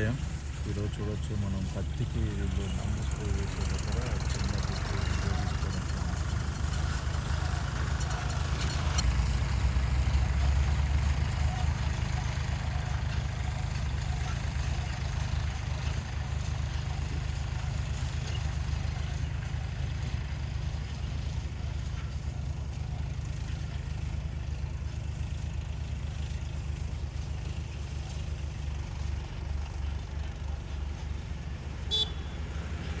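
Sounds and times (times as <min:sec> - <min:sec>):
tractor engine rumbling: 0:00.0 - 0:33.0.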